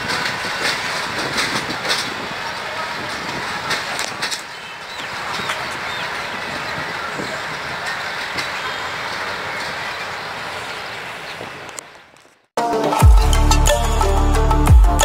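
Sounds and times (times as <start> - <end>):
train wheels on rails: 0.0 - 12.5.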